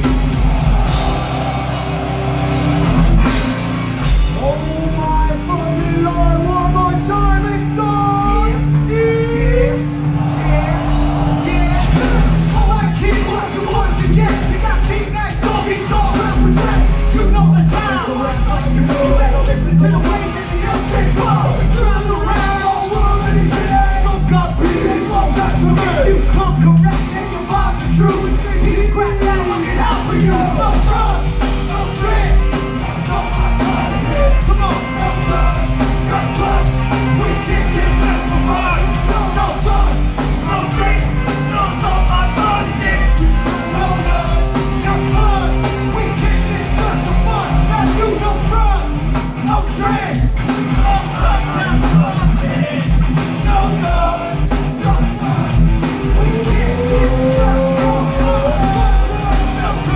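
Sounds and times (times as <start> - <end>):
live rock band playing: 0.0 - 59.9
shouted and sung vocals: 0.0 - 59.9.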